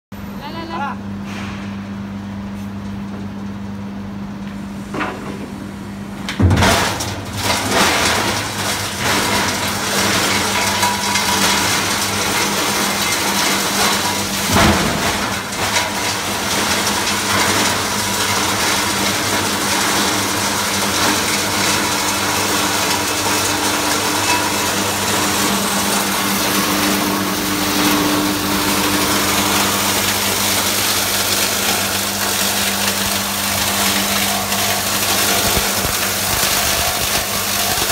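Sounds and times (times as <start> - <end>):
plastic crusher motor hum: 4.4 - 37.9
blades cracking and clattering plastic: 6.4 - 37.9.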